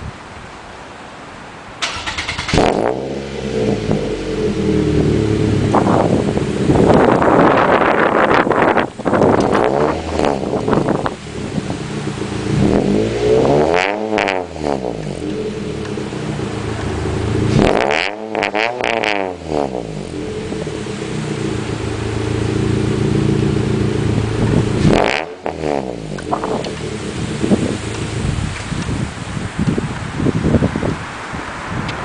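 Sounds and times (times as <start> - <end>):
car engine idling and revving: 1.8 - 32.0.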